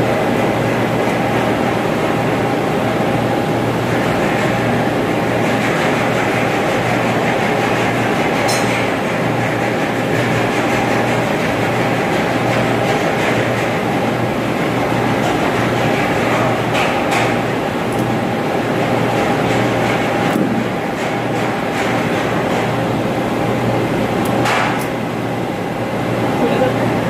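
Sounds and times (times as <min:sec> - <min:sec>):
ventilation machinery rumbling: 0:00.0 - 0:27.0.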